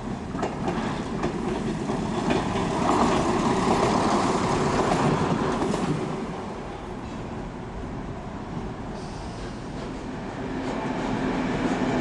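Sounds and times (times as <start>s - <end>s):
diesel railbus passing: 0.0s - 12.0s.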